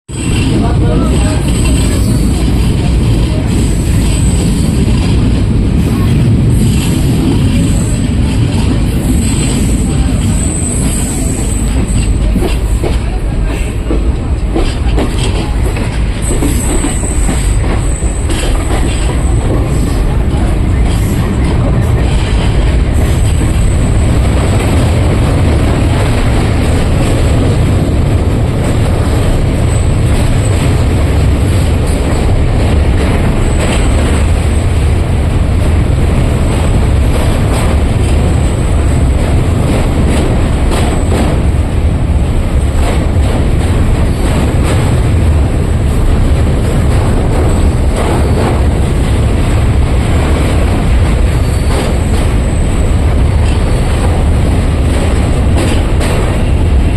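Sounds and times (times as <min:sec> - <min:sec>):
train rumbling on track: 0:00.0 - 0:56.9.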